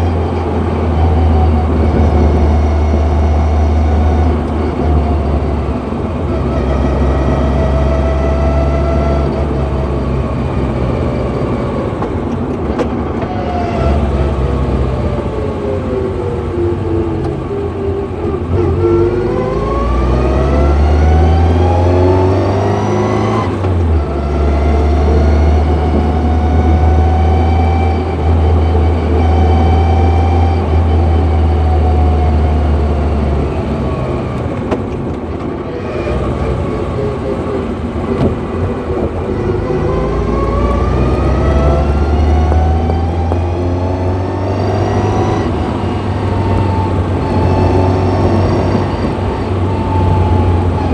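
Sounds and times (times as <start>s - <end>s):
car engine hum: 0.0s - 50.9s.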